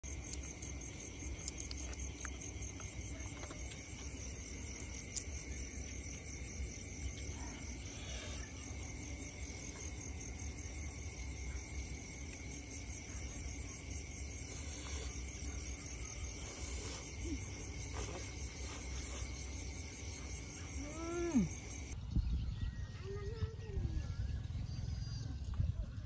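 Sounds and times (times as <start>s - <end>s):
crickets and insects trilling: 0.0s - 22.0s.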